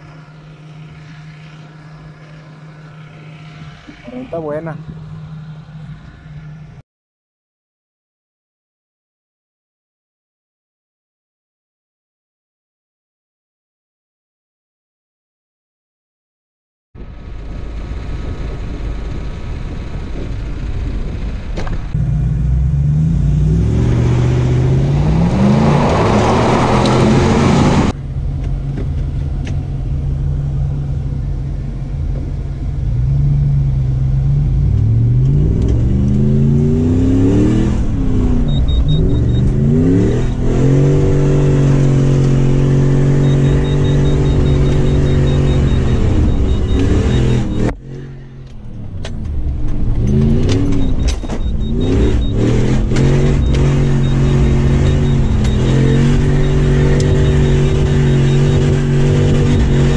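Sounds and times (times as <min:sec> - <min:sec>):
engine revving: 0:00.0 - 0:06.8, 0:17.0 - 0:59.9.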